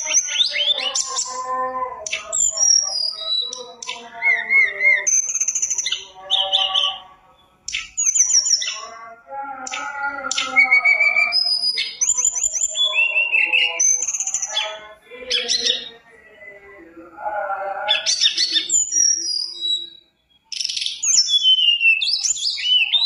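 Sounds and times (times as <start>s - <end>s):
bird singing whistles and trills: 0.0s - 9.0s, 9.6s - 16.6s, 17.9s - 23.0s.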